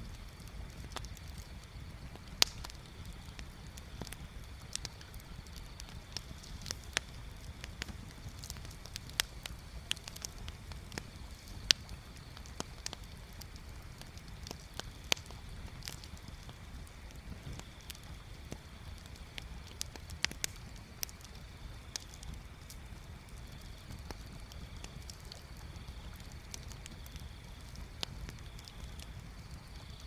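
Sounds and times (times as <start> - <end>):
bonfire crackling and popping: 0.0 - 30.0.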